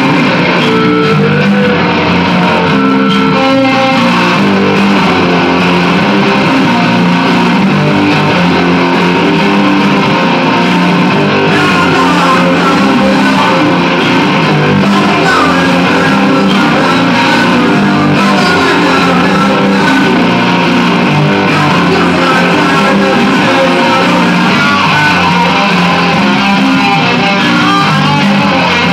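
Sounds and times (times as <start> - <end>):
electric guitar playing rock: 0.0 - 28.9.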